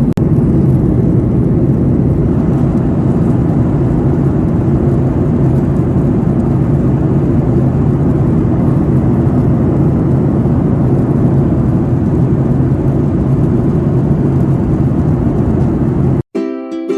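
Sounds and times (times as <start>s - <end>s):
jet engine cabin drone: 0.0s - 16.2s.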